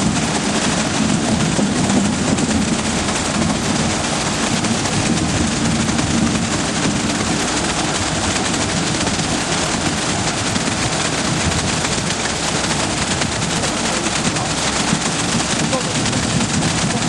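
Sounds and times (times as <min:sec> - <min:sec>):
concrete mixer diesel engine: 0:00.0 - 0:17.0
concrete pouring down chute: 0:00.0 - 0:17.0.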